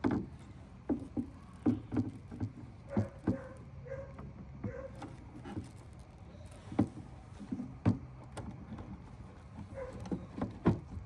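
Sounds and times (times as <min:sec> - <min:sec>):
hands handling plastic parts: 0:00.0 - 0:11.0.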